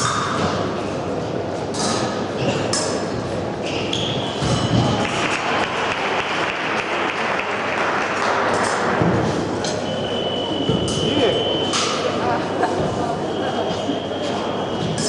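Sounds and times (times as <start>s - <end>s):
crowd hubbub: 0.0s - 15.0s.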